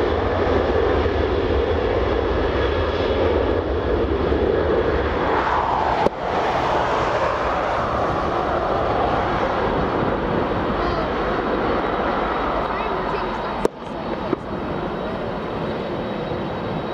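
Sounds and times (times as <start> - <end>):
jet engines roaring: 0.0 - 16.9.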